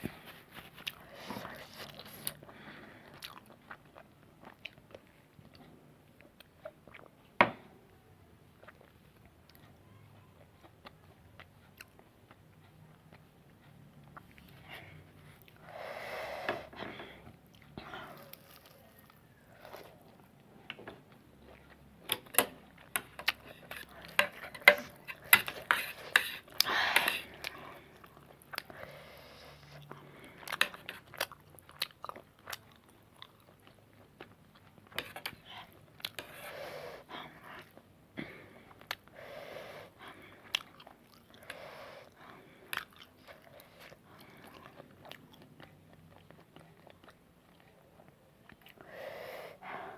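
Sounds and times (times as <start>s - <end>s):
chewing noodles: 0.0s - 7.2s, 8.5s - 15.9s, 17.4s - 49.9s.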